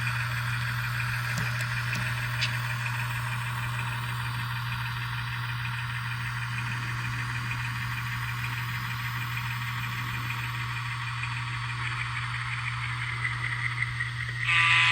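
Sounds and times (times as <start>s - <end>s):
toy train diesel engine drone: 0.0s - 14.9s.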